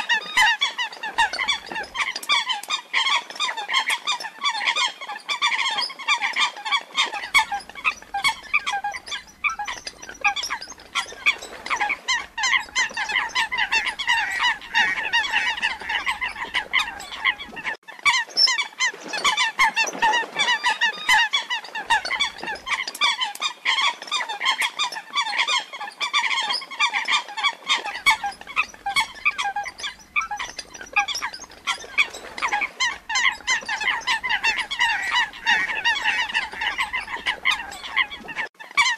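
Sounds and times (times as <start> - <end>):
coots calling: 0.0 - 38.9.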